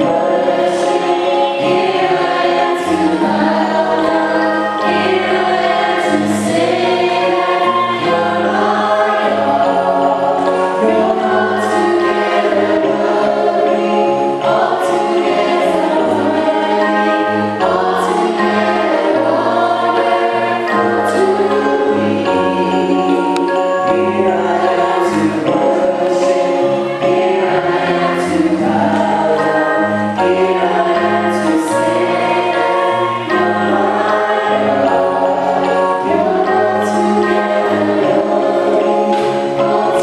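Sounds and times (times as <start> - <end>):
church choir singing gospel: 0.0 - 40.0
held bass notes: 0.0 - 40.0.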